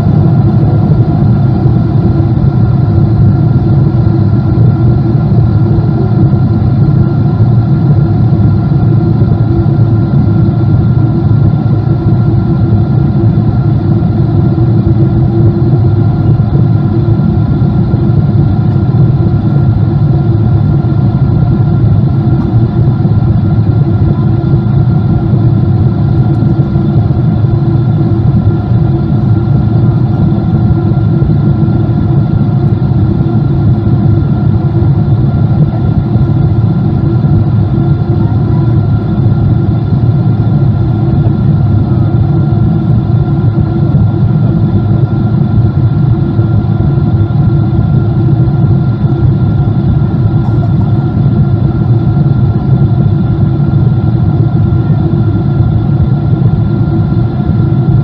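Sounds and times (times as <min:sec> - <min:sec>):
jet engine cabin drone: 0:00.0 - 0:58.0
steady whining tones: 0:00.0 - 0:58.0.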